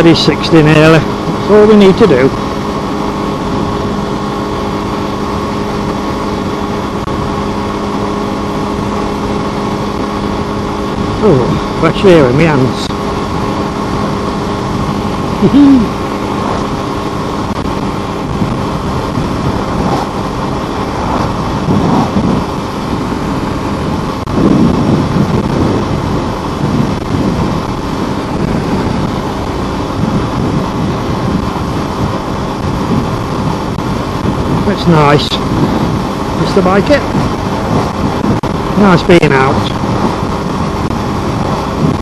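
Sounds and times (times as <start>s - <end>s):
motorcycle engine running: 0.0s - 42.0s
wind rushing over microphone: 0.0s - 42.0s.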